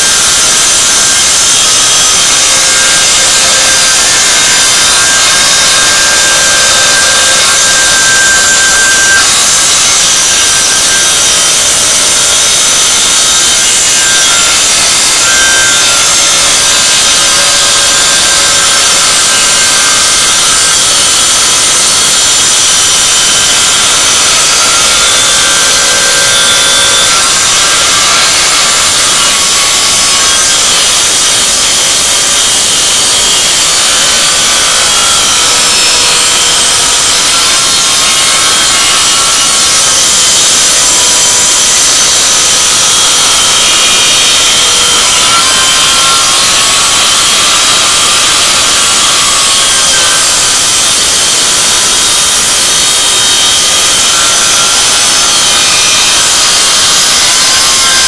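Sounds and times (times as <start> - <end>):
circular saw cutting rubber: 0.0 - 58.0.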